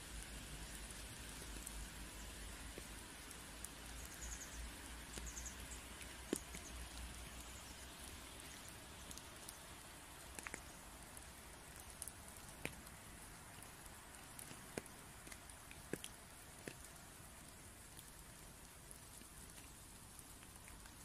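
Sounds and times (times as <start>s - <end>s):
faint outdoor hiss: 0.0s - 21.0s
small ticks: 0.2s - 21.0s.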